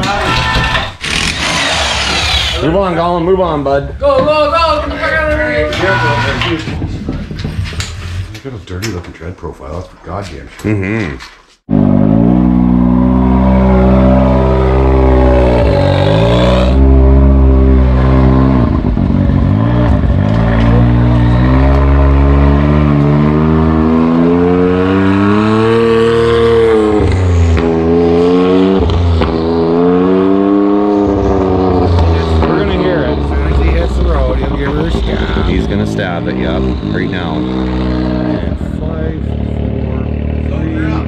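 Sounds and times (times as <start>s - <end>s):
atv engine revving: 1.0s - 8.2s, 11.7s - 41.0s.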